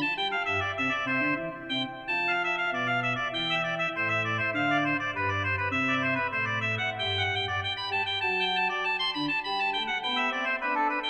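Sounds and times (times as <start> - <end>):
church organ playing chords: 0.0 - 11.0.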